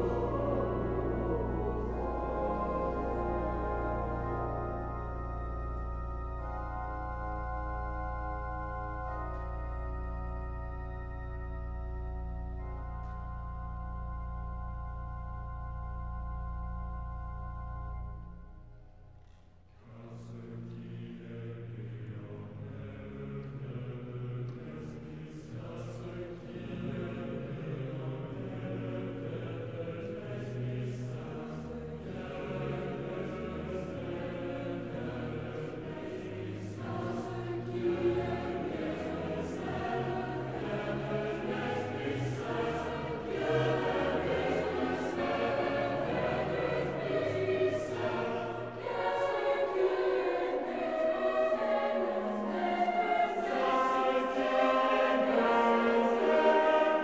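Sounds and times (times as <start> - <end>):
choir singing: 0.0 - 15.6, 19.2 - 57.0
pipe organ low notes: 0.0 - 57.0.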